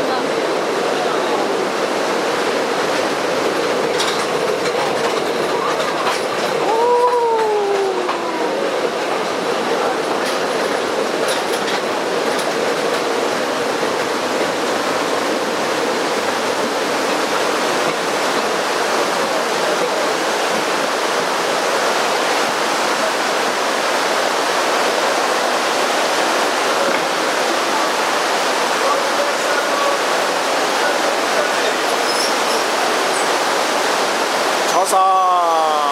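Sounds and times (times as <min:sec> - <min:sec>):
train cars rushing on rails: 0:00.0 - 0:35.9.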